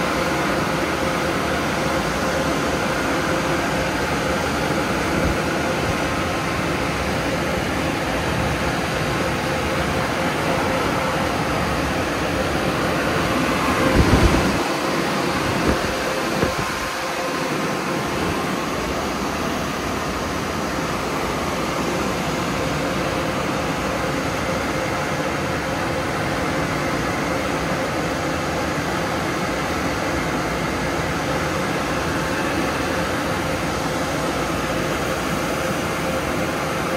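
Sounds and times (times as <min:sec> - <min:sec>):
air dryer blowers rushing: 0:00.0 - 0:36.9.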